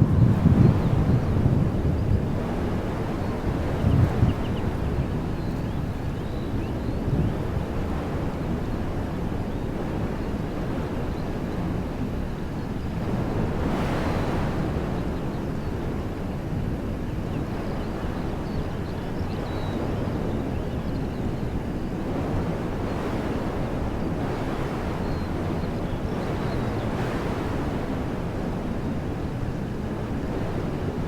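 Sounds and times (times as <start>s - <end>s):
wind blowing through trees: 0.0s - 31.0s
wind buffeting microphone: 0.0s - 31.0s.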